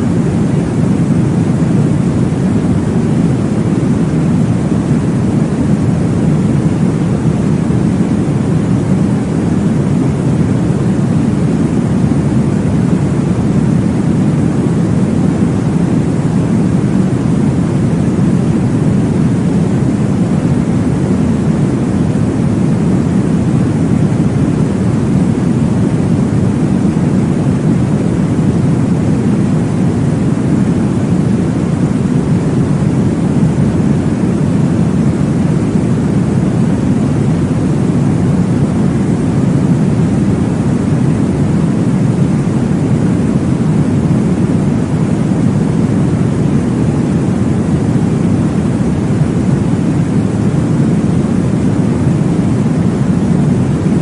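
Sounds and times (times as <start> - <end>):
low whooshing noise: 0.0 - 54.0.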